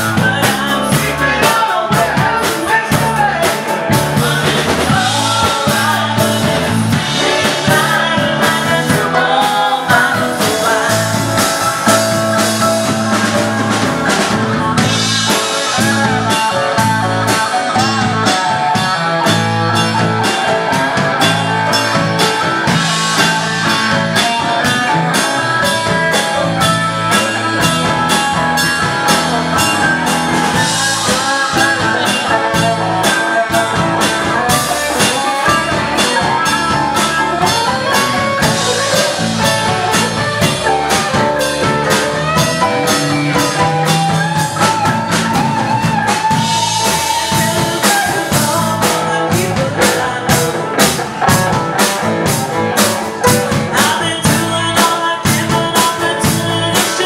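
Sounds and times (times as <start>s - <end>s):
drum kit beat: 0.0s - 57.0s
electric bass: 0.0s - 57.0s
electric guitar: 0.0s - 57.0s.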